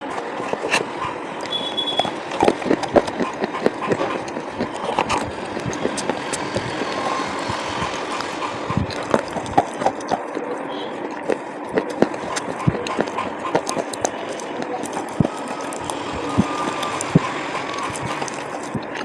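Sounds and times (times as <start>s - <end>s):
slate pencils crunching when chewed: 0.2s - 19.0s.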